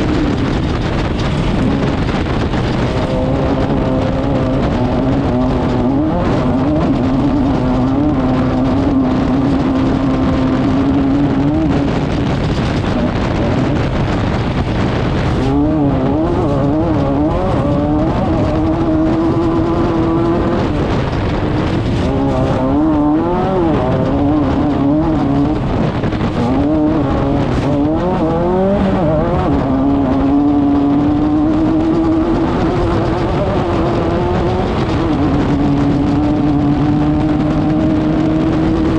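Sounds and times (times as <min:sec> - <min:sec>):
constant rush of noise: 0:00.0 - 0:38.9
race car engine revving: 0:00.0 - 0:38.9.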